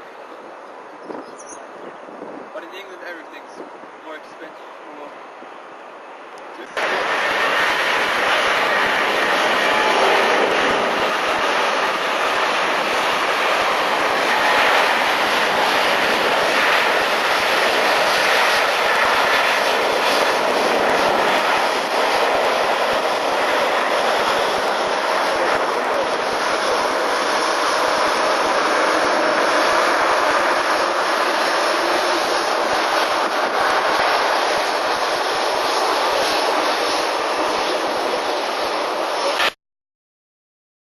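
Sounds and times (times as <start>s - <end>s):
jet engines roaring: 0.0s - 39.6s.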